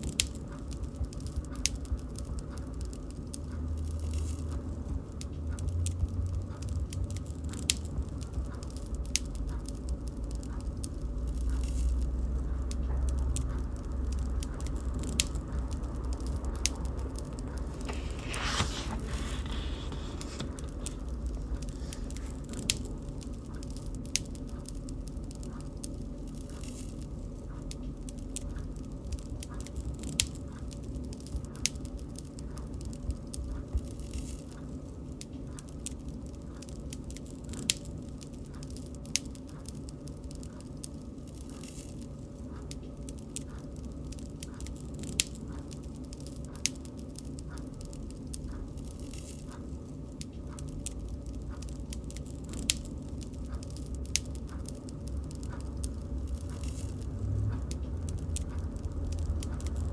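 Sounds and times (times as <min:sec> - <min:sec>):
bonfire crackling and popping: 0:00.0 - 0:59.9
low rumble of fire: 0:00.0 - 0:59.9.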